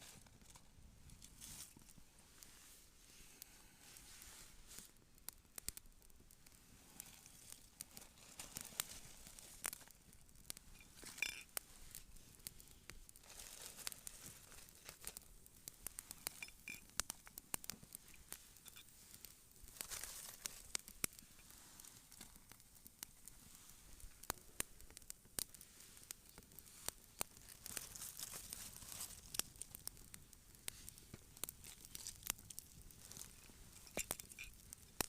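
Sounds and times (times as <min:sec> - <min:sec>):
campfire crackling and popping: 0:00.0 - 0:02.6, 0:03.3 - 0:35.0.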